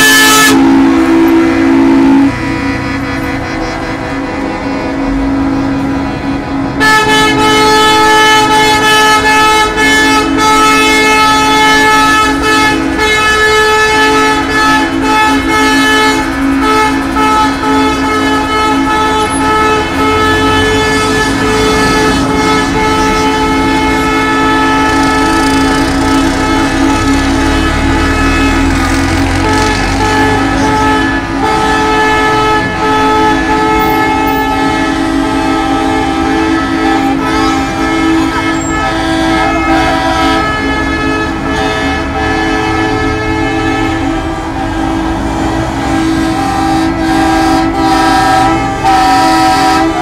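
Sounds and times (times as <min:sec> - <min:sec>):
loud horn chord: 0:00.0 - 0:50.0
passing truck engines: 0:00.0 - 0:50.0
truck air horns blowing: 0:00.0 - 0:50.0.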